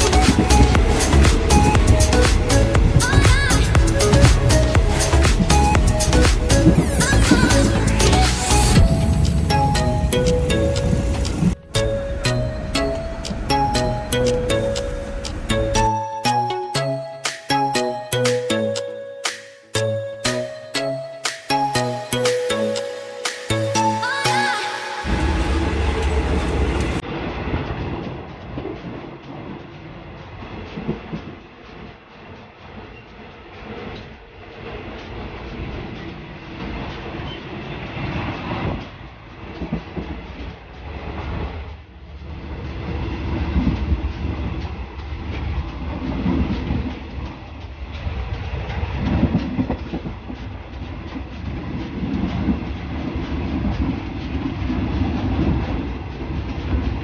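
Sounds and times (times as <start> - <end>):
train rumbling along track: 0.0 - 57.0.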